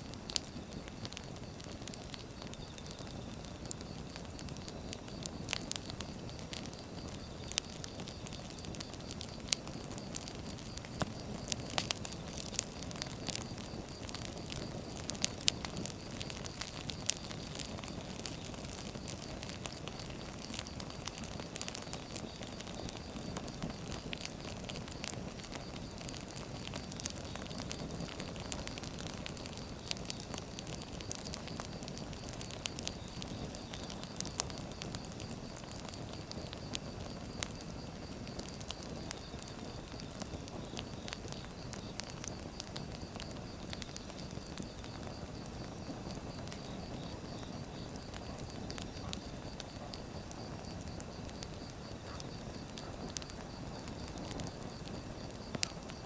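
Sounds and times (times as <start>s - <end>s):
firewood crackling and popping: 0.0s - 56.0s
hiss of flames: 0.0s - 56.0s.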